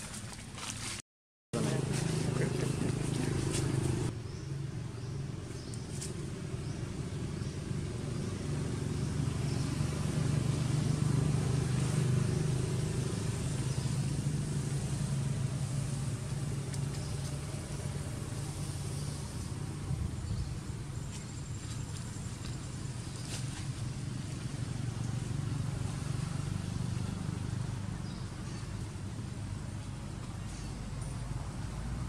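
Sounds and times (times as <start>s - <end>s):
vehicle engine passing by: 1.6s - 32.0s.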